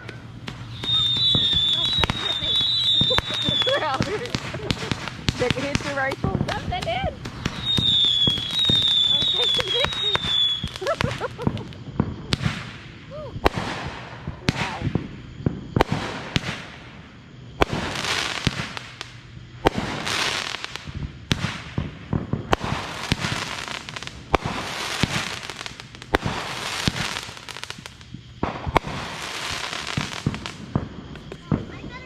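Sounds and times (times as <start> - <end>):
crackling hiss of fireworks: 0.0 - 32.0
firework bangs: 0.0 - 32.0.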